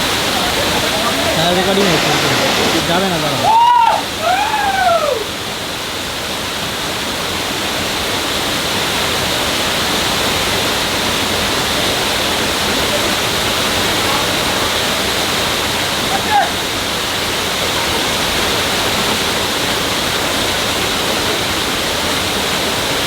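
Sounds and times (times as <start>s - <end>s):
waterfall pouring: 0.0s - 23.0s.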